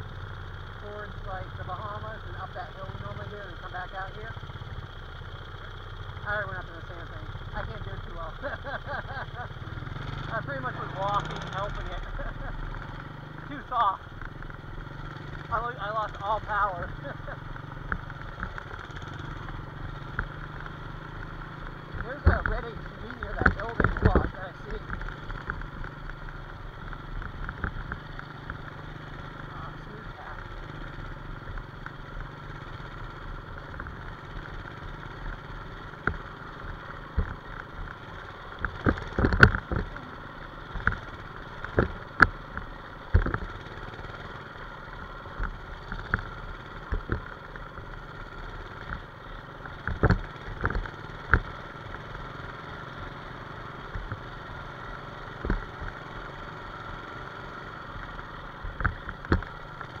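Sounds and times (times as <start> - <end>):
small engine running: 0.0 - 60.0.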